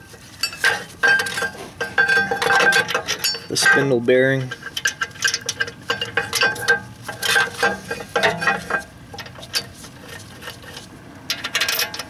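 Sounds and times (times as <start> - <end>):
bolts fumbled by hand: 0.4 - 12.0
metal bracket clinking and rattling: 0.4 - 12.0.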